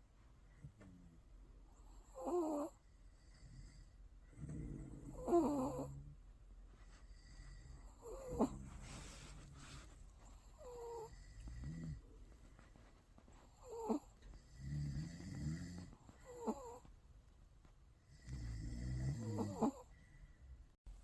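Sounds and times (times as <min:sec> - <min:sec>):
puppy snoring: 0:00.6 - 0:17.0, 0:18.0 - 0:20.0.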